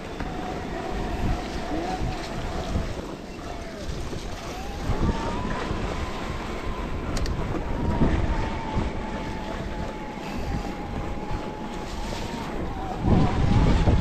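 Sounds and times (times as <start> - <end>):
bike tyres rumbling over trail: 0.0 - 14.0
thin steady whine: 0.0 - 14.0
wind buffeting microphone: 0.0 - 14.0.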